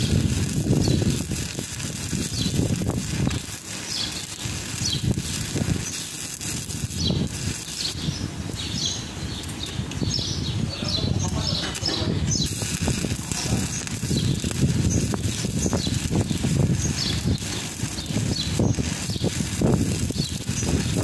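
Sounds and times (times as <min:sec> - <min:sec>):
welding arc crackling: 0:00.0 - 0:21.0.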